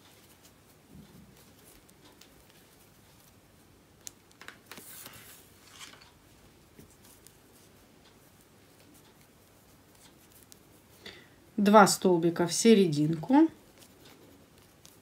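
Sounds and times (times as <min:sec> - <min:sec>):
rustling of thread: 0:00.0 - 0:15.0.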